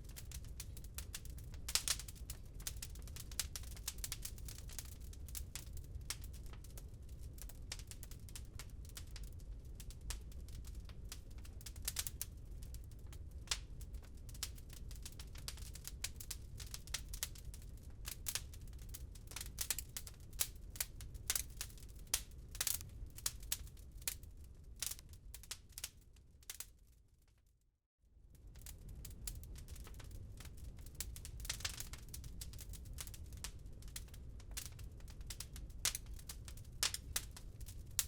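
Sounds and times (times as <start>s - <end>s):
wood fire crackling: 0.0s - 26.9s, 28.3s - 38.0s.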